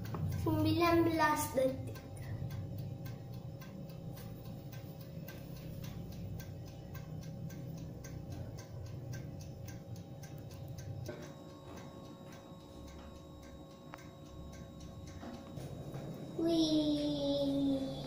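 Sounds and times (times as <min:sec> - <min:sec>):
low steady hum: 0:00.0 - 0:18.0
oven timer ticking: 0:00.0 - 0:18.0.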